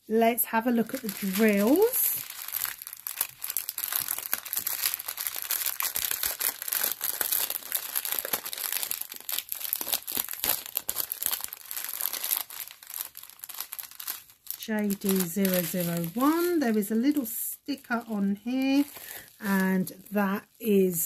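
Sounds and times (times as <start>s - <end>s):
plastic bag crinkling: 0.4s - 21.0s.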